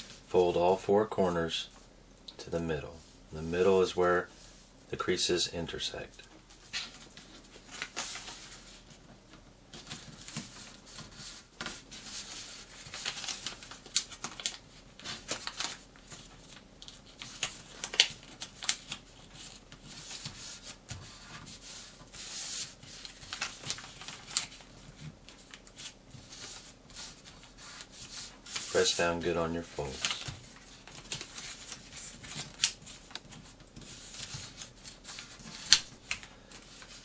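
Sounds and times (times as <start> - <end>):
paper rustling and crinkling: 6.4 - 37.0.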